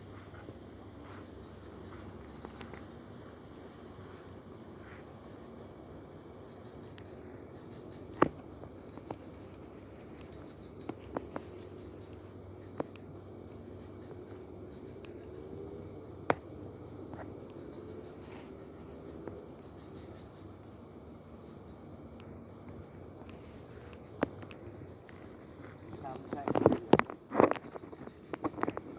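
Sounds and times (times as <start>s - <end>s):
night insects chirring: 0.0s - 28.9s.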